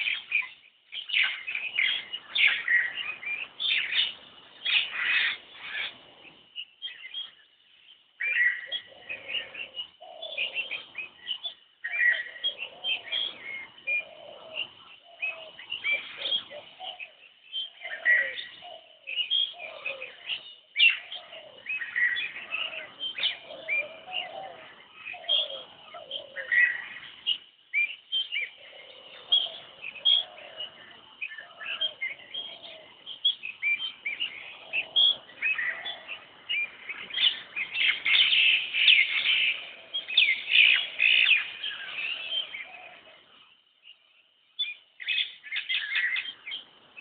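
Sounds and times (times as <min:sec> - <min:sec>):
birds chirping: 0:00.0 - 0:47.0
lower bird calls: 0:00.0 - 0:47.0.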